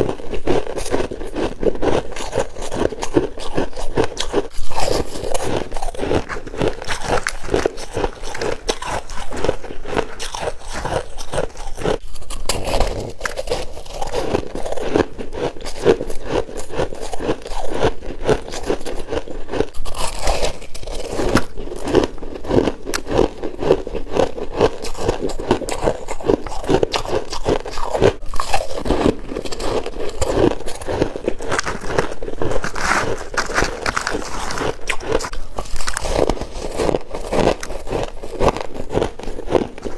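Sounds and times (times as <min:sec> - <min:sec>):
chewing frost crackles: 0:00.0 - 0:39.9.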